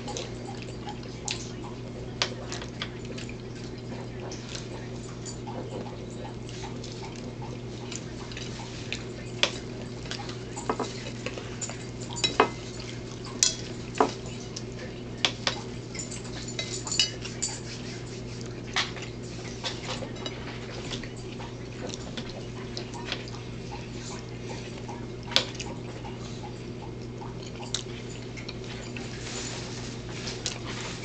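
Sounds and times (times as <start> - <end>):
steady low hum: 0.0 - 31.0
utensils clinking on plates: 0.0 - 31.0.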